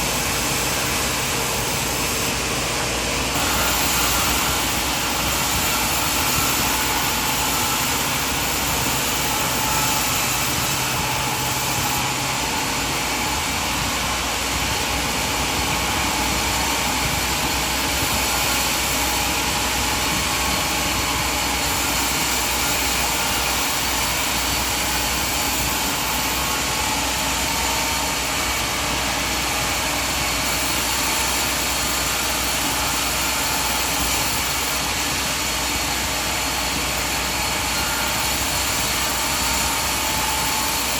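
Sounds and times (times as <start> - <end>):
sawmill machinery hum: 0.0 - 40.9.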